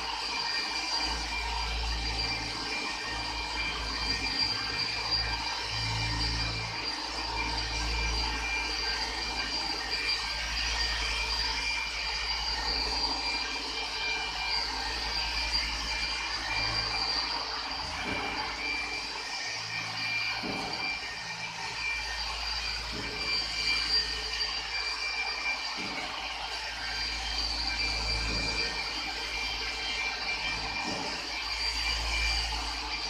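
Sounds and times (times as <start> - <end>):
car polisher whining: 0.0 - 33.0.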